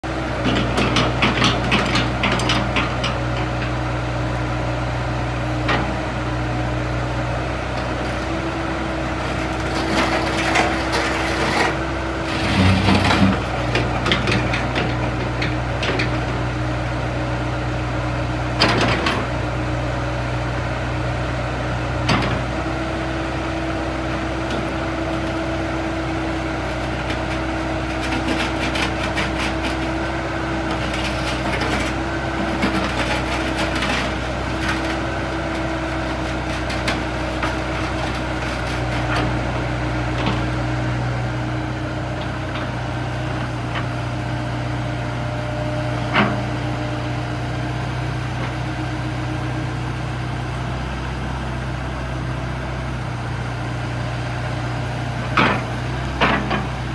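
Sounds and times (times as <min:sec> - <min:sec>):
diesel excavator engine running: 0:00.0 - 0:56.9.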